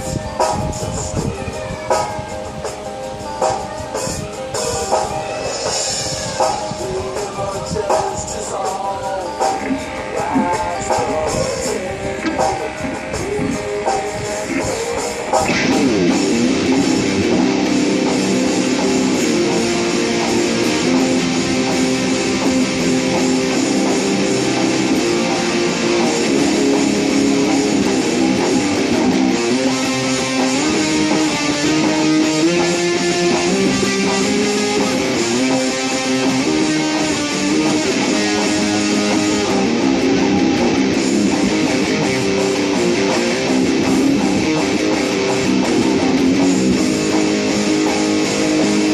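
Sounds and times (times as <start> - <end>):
electric guitar held notes: 8.9 - 48.9.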